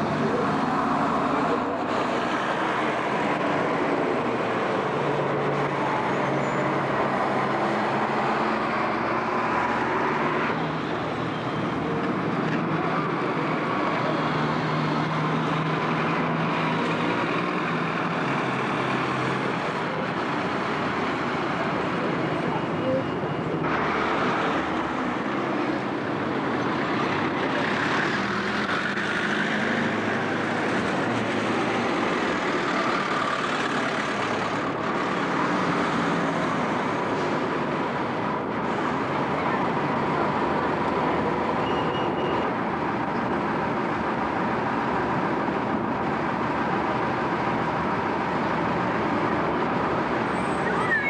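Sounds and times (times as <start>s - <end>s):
buses driving past: 0.0s - 51.0s
street traffic: 0.0s - 51.0s.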